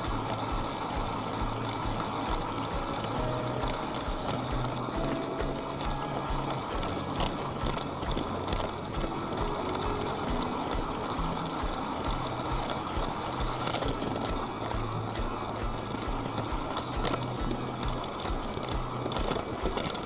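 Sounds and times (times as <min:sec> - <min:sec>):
toy train motor running: 0:00.0 - 0:20.0.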